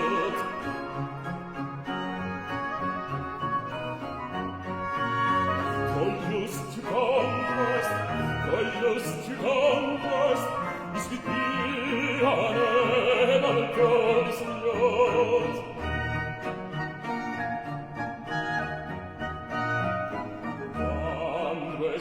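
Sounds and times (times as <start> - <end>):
orchestra strings and continuo: 0.0 - 22.0.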